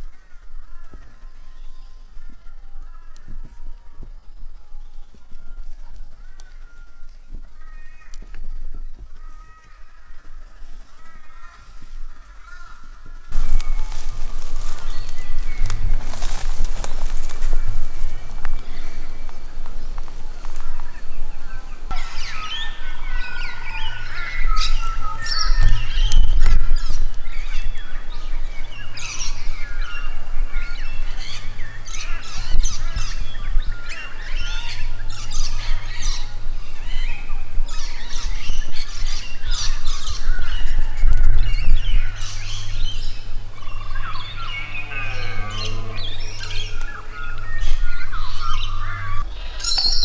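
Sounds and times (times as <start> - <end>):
birds chirping and squawking: 0.0 - 50.0
low steady rumble: 8.5 - 49.2.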